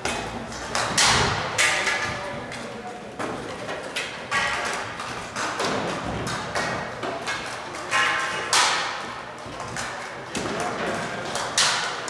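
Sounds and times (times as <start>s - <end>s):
busy arena background: 0.0s - 12.0s.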